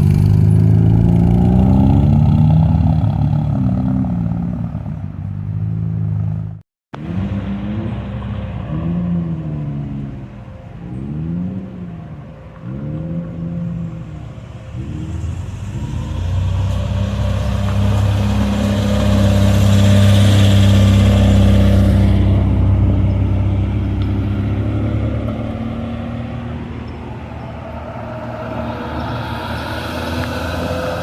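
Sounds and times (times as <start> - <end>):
car engine running and revving: 0.0 - 31.0.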